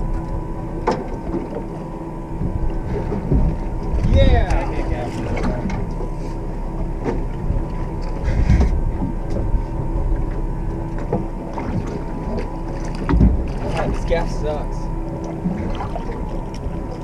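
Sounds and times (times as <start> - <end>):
boat engine hum and rumble: 0.0 - 17.0
water sloshing against hull: 0.0 - 17.0.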